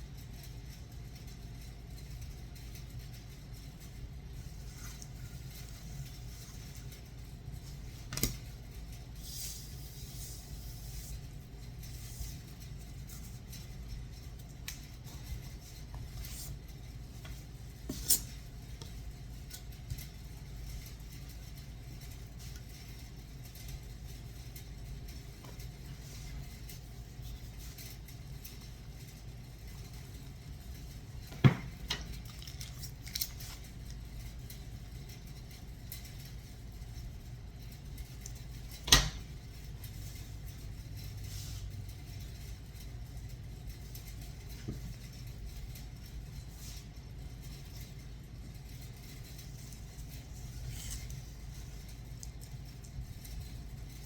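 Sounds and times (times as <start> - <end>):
steady low hum: 0.0 - 54.0
soft rustle: 1.3 - 31.3, 39.4 - 54.0.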